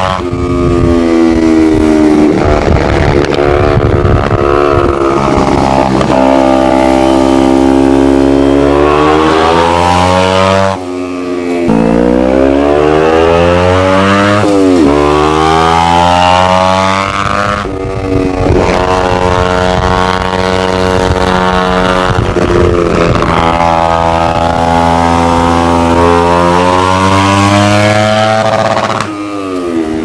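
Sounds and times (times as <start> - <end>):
motorcycle engine accelerating: 0.0 - 30.0
gear change: 0.2 - 30.0.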